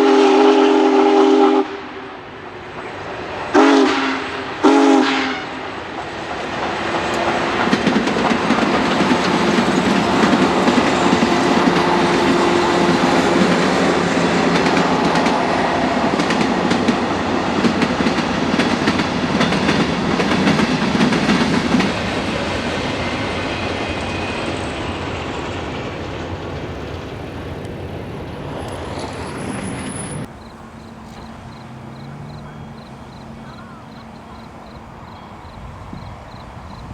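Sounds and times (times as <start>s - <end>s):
steam locomotive passing: 0.0s - 36.9s.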